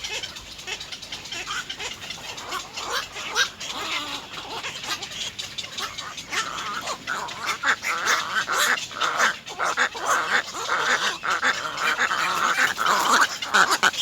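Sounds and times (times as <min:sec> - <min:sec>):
bird chicks begging calls: 0:00.0 - 0:14.0.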